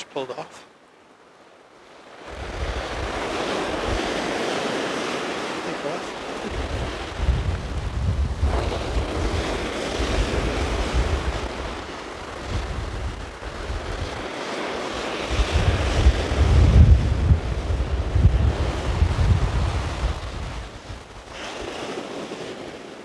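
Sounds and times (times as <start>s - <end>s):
sea surf breaking: 0.0s - 23.0s
wind buffeting microphone: 1.2s - 23.0s.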